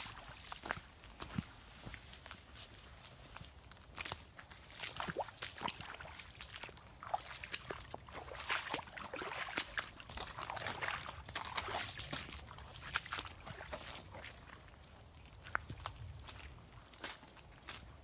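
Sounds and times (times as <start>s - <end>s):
footsteps on wet ground and debris: 0.0s - 18.0s.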